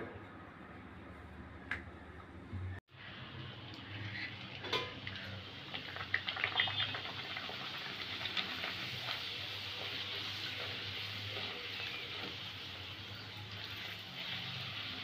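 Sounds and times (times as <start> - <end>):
bread sizzling in hot oil: 2.9 - 15.0.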